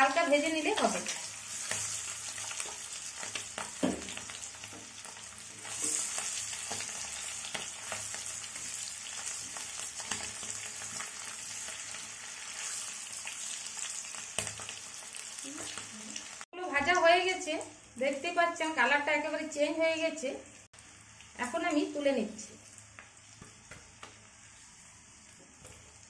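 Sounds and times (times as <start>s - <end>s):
food frying in hot oil: 0.0s - 18.2s, 20.4s - 26.0s.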